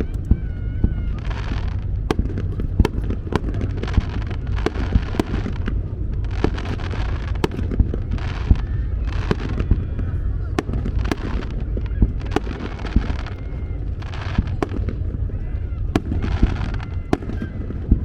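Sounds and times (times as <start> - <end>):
crackling hiss of fireworks: 0.0 - 18.0
fireworks bangs: 0.0 - 18.0
low rumble: 0.0 - 18.0.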